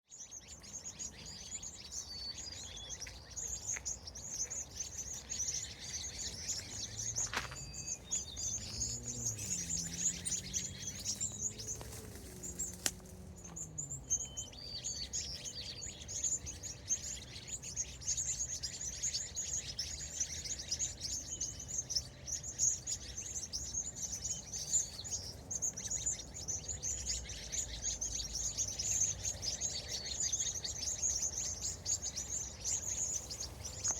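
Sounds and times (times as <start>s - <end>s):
small birds chirping: 0.0s - 33.9s
low engine-like hum: 0.9s - 33.9s.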